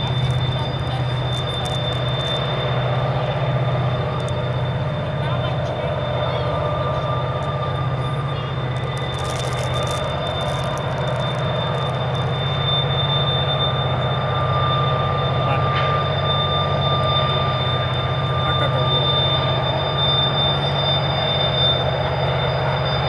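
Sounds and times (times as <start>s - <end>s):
wheel squeal: 0.0s - 4.9s, 6.0s - 23.0s
freight train rumbling: 0.0s - 23.0s.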